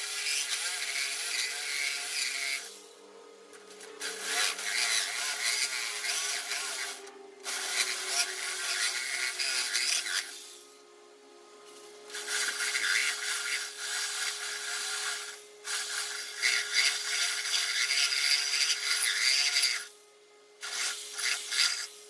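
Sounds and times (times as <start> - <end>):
reciprocating saw cutting wood: 0.0 - 10.8, 11.7 - 20.0, 20.6 - 22.0.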